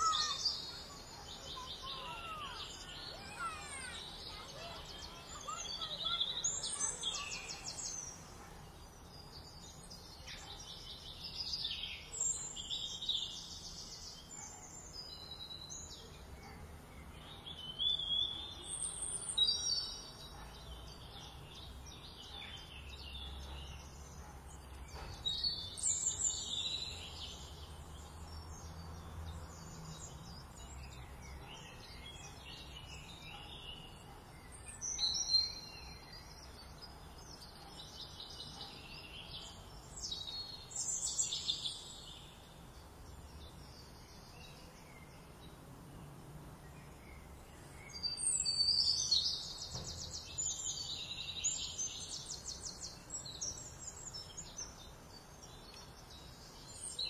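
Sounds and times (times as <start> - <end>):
faint background hiss: 0.0 - 57.0
small songbirds chirping: 0.0 - 57.0.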